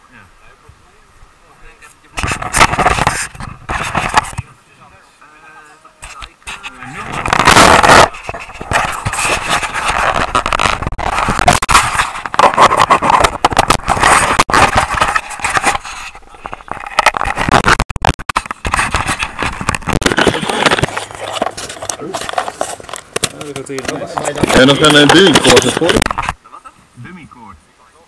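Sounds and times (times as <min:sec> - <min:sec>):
fingers scratching on camera body: 0:02.2 - 0:04.4, 0:06.0 - 0:26.4.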